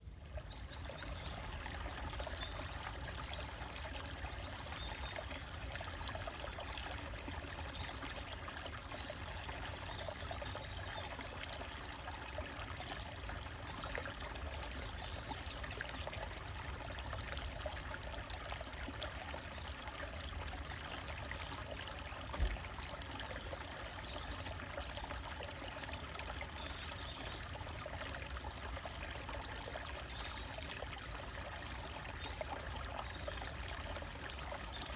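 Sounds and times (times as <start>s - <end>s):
stream trickling over rocks: 0.0s - 34.9s.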